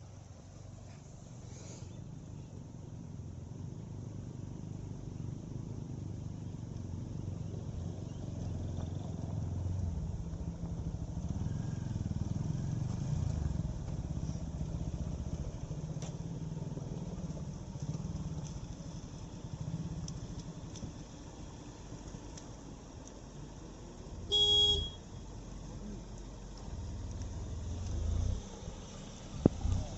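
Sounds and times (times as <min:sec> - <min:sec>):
car engine running under load: 0:00.0 - 0:29.9.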